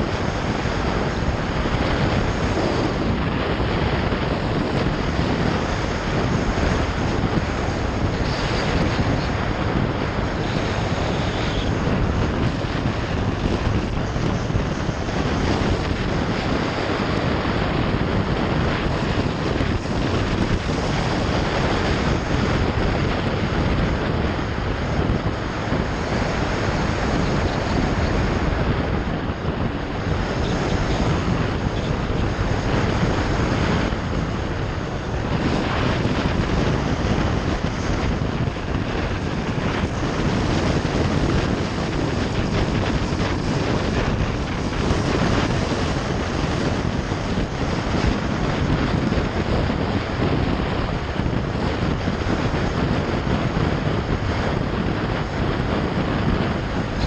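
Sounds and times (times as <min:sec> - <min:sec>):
motorbike road noise: 0:00.0 - 0:57.0
wind rush on microphone: 0:00.0 - 0:57.0.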